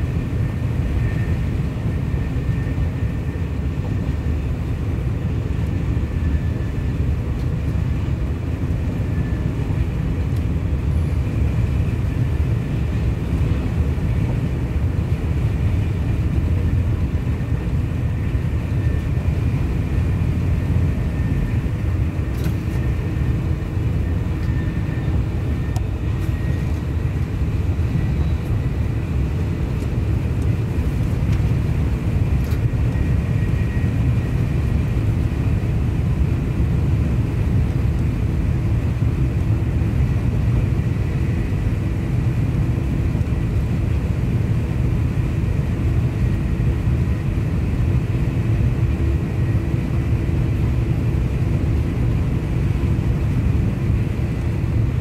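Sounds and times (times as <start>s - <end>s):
train rumble inside carriage: 0.0s - 55.0s.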